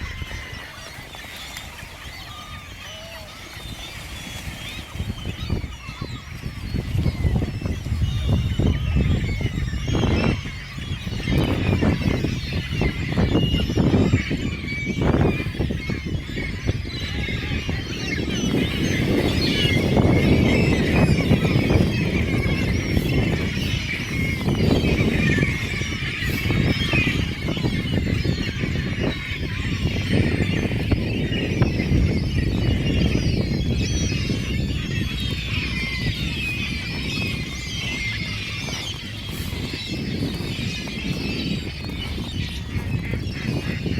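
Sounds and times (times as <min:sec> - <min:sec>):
gulls and ducks calling: 0:00.0 - 0:43.9.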